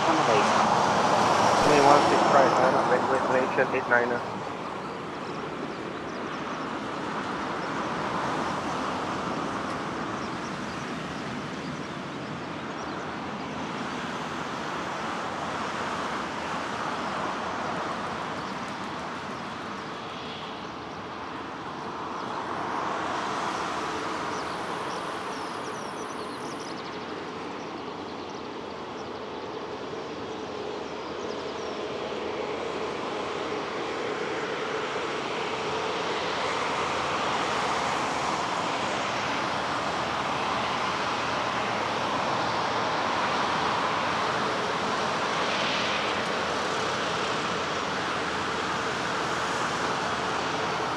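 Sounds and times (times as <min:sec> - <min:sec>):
jet engines running at low power: 0:00.0 - 0:50.9.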